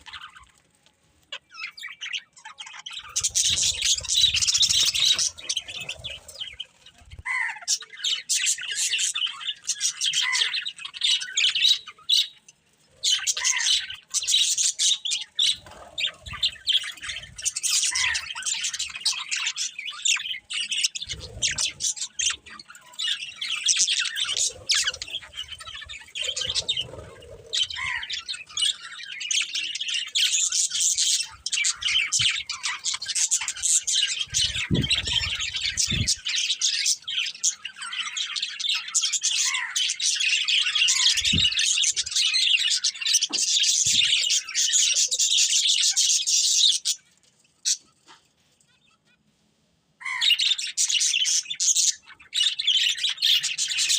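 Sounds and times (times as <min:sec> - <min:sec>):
budgerigars chirping and chattering: 0:00.0 - 0:49.2, 0:50.0 - 0:53.9.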